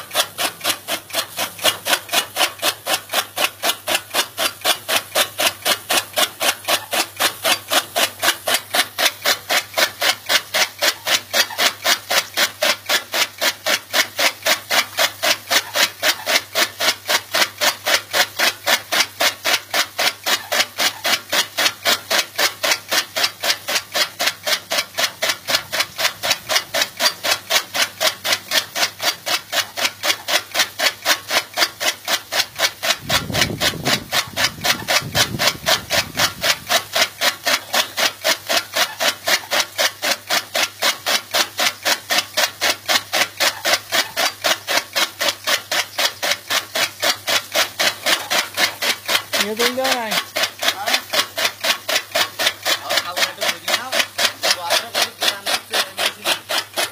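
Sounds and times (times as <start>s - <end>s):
scratchy rubbing strokes: 0.0s - 56.9s.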